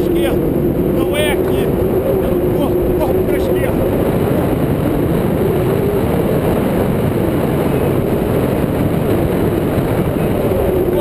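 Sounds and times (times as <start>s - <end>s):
faint wavering hum: 0.0s - 11.0s
wind rushing over microphone: 0.0s - 11.0s.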